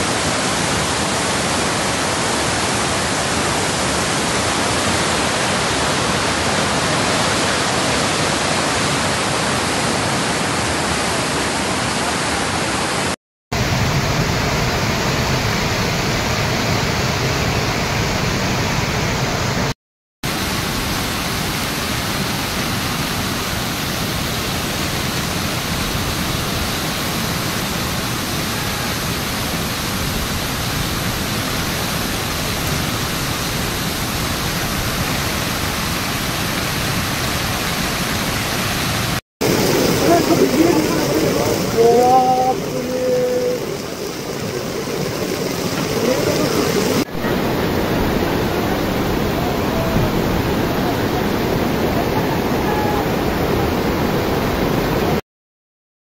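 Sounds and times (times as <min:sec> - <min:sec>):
floodwater rushing: 0:00.0 - 0:55.2.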